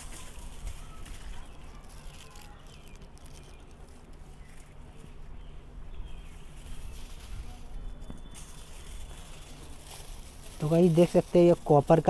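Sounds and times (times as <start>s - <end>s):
foil rustling and crinkling: 0.0s - 12.0s.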